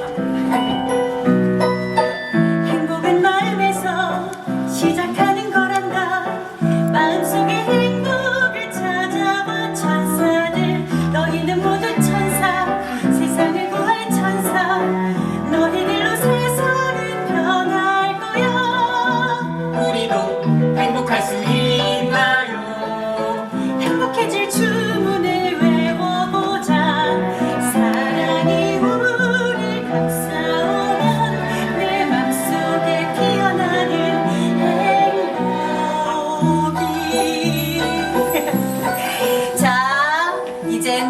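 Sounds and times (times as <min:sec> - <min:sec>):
piano accompaniment: 0:00.0 - 0:41.0
person singing: 0:02.6 - 0:41.0.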